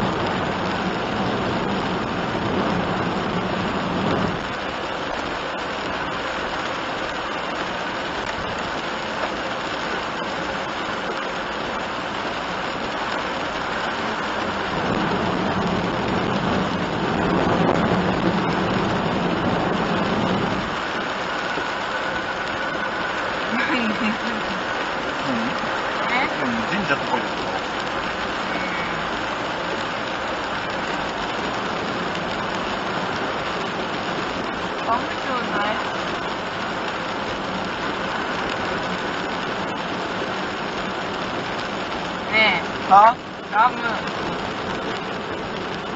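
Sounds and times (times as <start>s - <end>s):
heavy rain on vehicle roof: 0.0s - 45.9s
tyres hissing on wet road: 0.0s - 45.9s
van engine: 0.0s - 45.9s.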